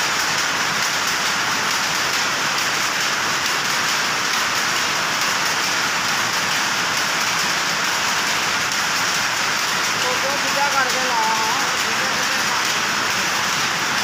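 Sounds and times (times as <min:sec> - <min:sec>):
powerlooms clattering: 0:00.1 - 0:14.0.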